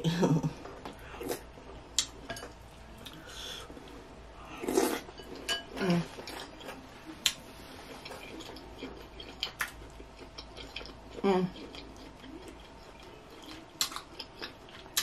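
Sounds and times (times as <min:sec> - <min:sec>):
person chewing noodles: 0:00.6 - 0:02.2, 0:03.0 - 0:15.0.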